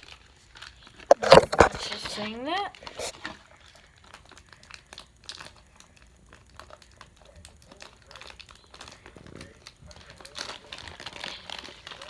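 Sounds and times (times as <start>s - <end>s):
plastic packaging crinkling: 0.0s - 12.0s
small clicks and crackles: 0.0s - 12.0s.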